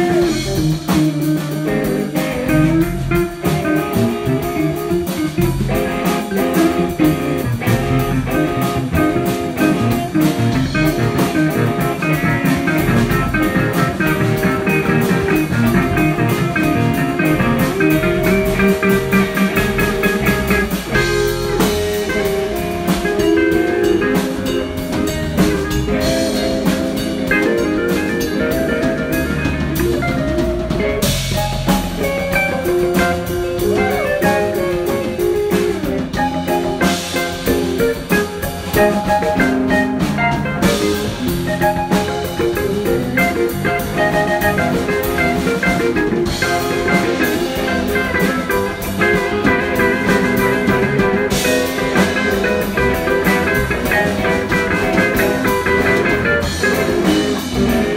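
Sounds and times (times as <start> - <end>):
blues guitar: 0.0 - 57.9
drum kit beat: 0.0 - 57.9.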